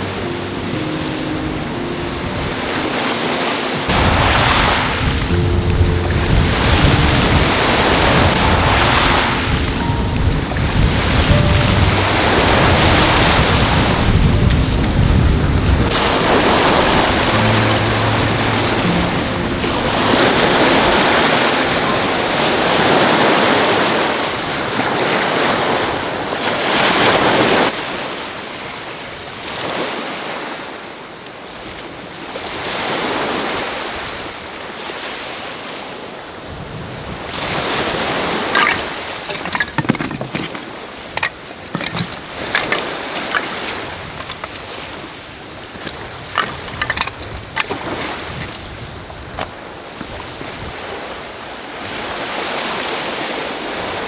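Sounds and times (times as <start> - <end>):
sea waves washing onto shore: 0.0 - 27.8, 37.3 - 54.0.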